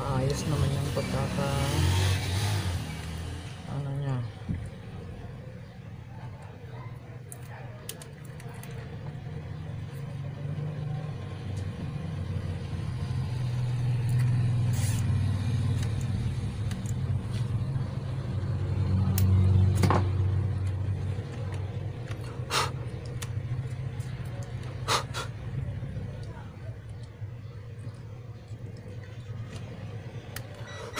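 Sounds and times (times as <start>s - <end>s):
vehicle engines passing: 0.0s - 30.9s.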